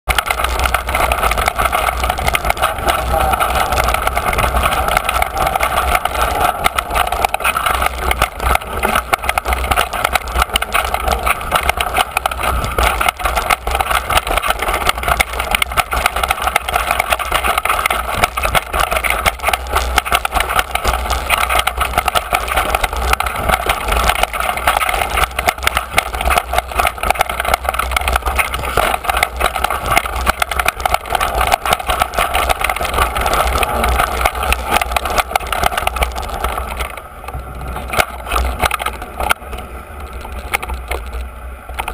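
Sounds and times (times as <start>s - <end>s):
bike clattering over dirt trail: 0.1s - 37.0s, 37.6s - 41.2s
wind rumble on microphone: 0.1s - 41.9s.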